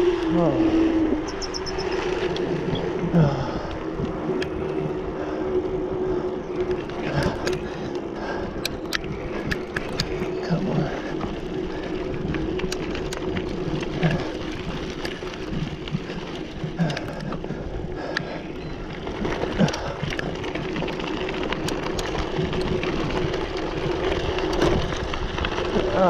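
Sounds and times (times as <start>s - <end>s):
bike clicks and rattles: 0.0s - 26.0s
bike tyres on dirt: 0.0s - 26.0s.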